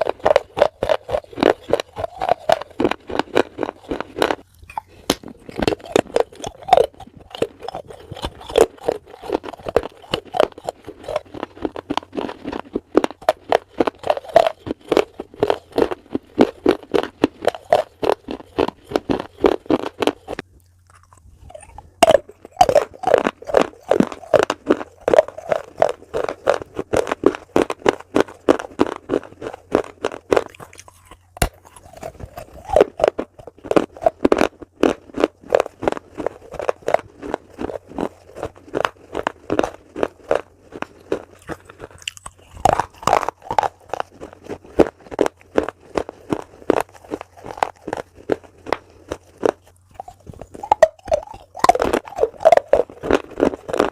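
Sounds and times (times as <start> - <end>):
crunchy food chewing: 0.0 - 53.9.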